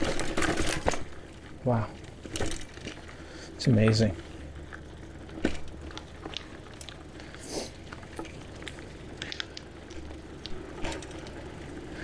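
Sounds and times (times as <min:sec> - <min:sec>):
bicycle tyres crunching on dirt: 0:00.0 - 0:12.0
light clicks and rattles: 0:00.0 - 0:12.0
low steady rumble: 0:00.0 - 0:12.0.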